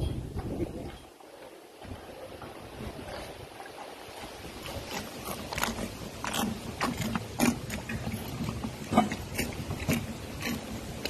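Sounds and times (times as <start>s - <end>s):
calves slurping milk: 0.3s - 11.0s.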